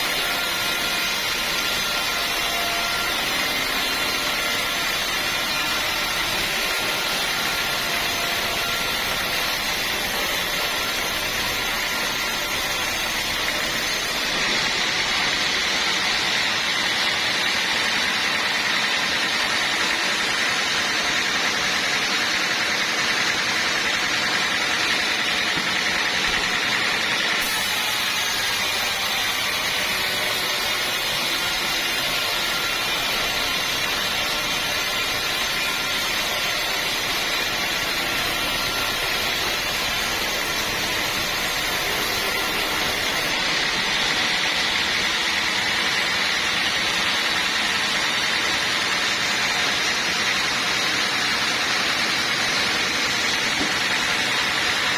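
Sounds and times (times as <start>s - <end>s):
sawmill saw cutting log: 0.0s - 54.9s.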